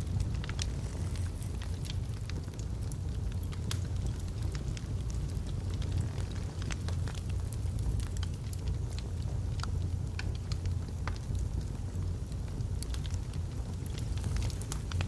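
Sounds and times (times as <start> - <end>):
logs crackling in fireplace: 0.0 - 15.0.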